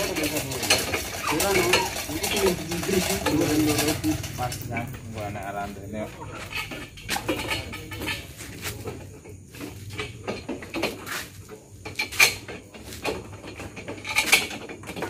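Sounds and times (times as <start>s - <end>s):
hardware clinking and knocking: 0.0s - 15.0s.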